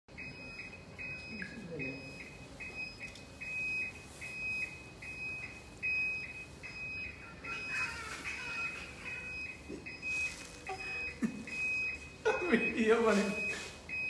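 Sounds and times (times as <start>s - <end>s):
indicator buzzer beeping: 0.1s - 14.0s.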